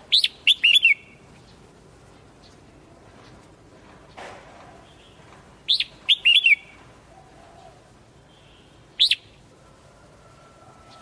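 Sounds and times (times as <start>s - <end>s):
bulbul singing: 0.0s - 9.6s.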